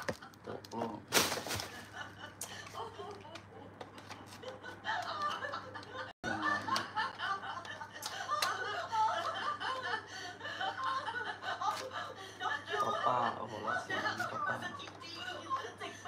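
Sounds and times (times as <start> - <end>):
people laughing: 1.6 - 16.0.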